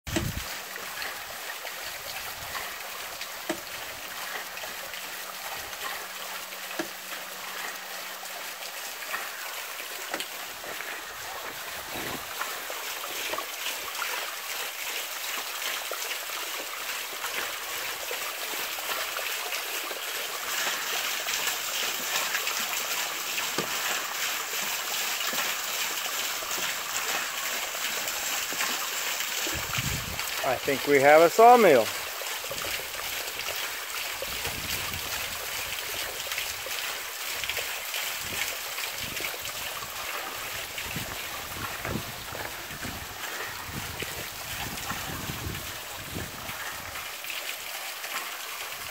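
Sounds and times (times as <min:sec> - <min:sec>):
running water splashing: 0:00.1 - 0:48.9.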